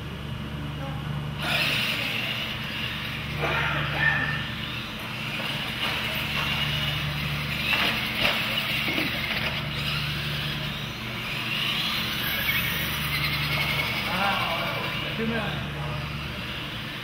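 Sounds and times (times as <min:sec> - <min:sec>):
toy truck electric motors whining: 0:01.4 - 0:17.0.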